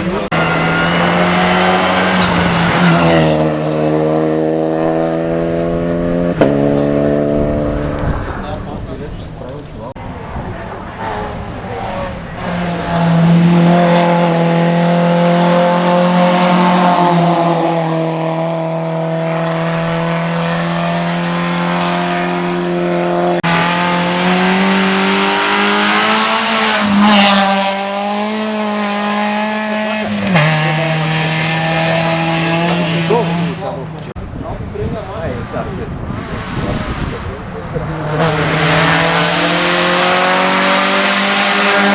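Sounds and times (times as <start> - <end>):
race car engine at high revs: 0.0 - 41.9.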